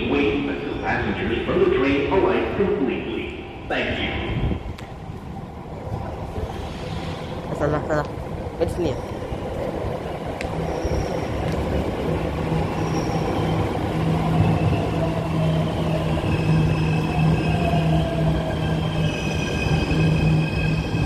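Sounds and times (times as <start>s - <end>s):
train low hum: 0.0s - 21.0s.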